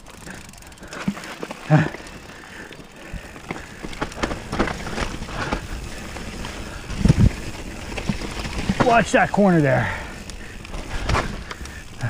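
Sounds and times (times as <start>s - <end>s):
bike rattling clicks: 0.0s - 12.0s
bike tyres rolling over dirt: 0.0s - 12.0s.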